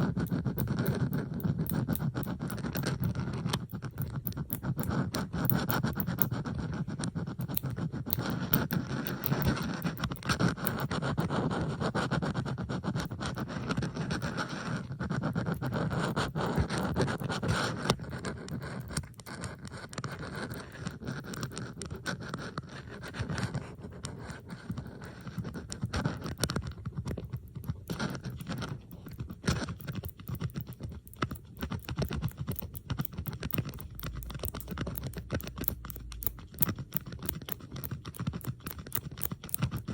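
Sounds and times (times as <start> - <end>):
bobby pins clicking and scraping: 0.0 - 39.9.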